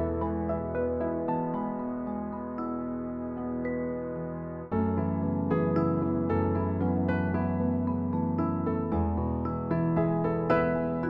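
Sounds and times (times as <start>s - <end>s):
keyboard playing piano-like notes: 0.0s - 11.0s.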